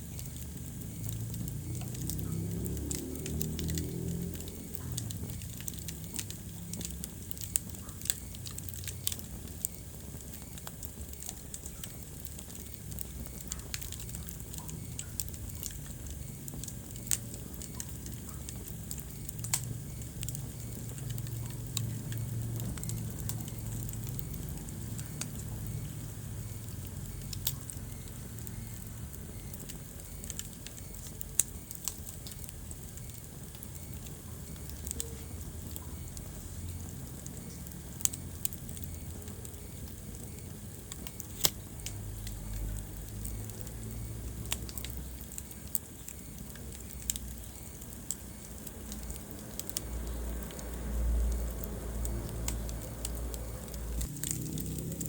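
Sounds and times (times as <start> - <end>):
low rumble of flames: 0.0 - 55.0
wood fire crackling: 0.0 - 55.0.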